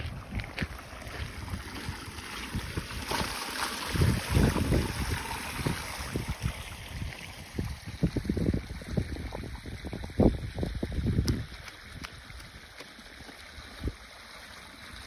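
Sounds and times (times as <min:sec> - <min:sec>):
wind rumbling on microphone: 0:00.0 - 0:14.1
water spraying from leaking pipe: 0:00.8 - 0:15.0.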